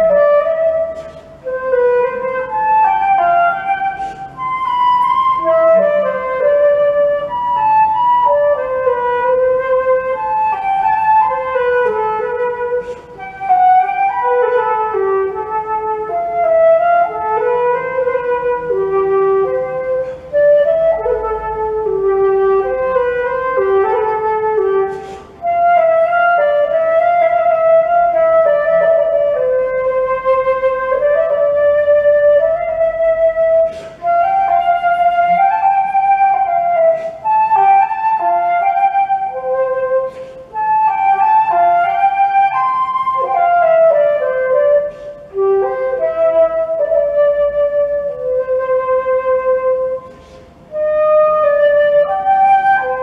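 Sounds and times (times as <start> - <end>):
solo flute melody: 0.0 - 53.0.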